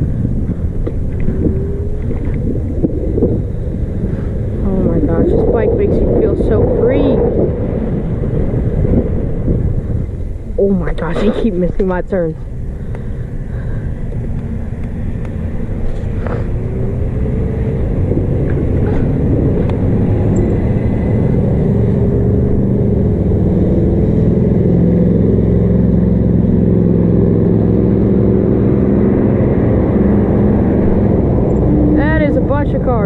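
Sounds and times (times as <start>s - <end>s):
bike road noise: 0.0s - 33.0s
passing motor traffic: 0.0s - 33.0s
wind noise: 0.0s - 33.0s.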